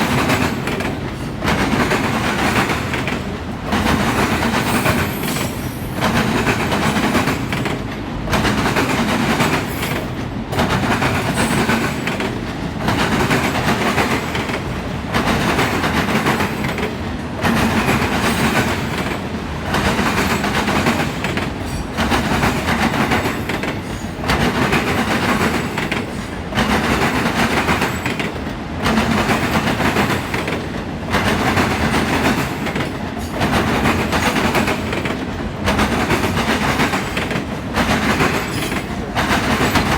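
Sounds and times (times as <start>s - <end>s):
freight train wheel clatter: 0.0s - 39.9s.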